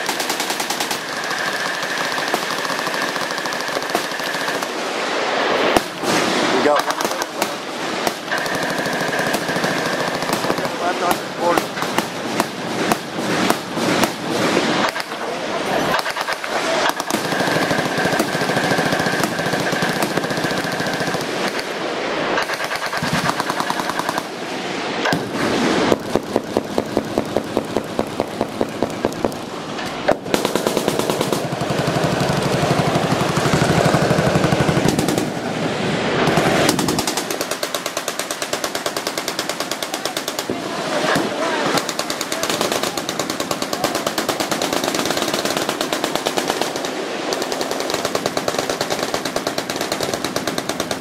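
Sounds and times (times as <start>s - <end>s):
machine-gun fire: 0.0s - 24.4s, 25.0s - 35.6s, 36.2s - 51.0s.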